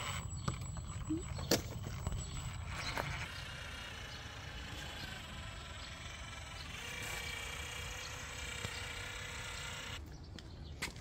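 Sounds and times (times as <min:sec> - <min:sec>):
caulking gun motor whine: 0:00.0 - 0:10.1.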